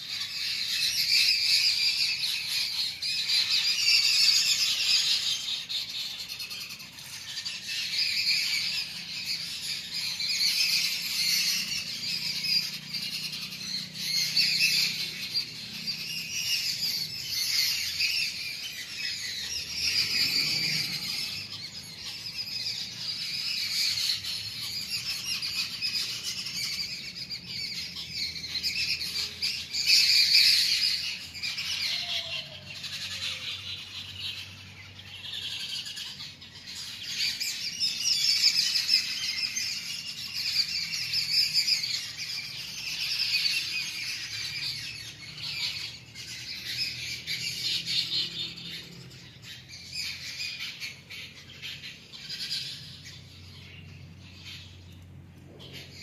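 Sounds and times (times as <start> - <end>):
flock of birds chirping: 0.0 - 56.0.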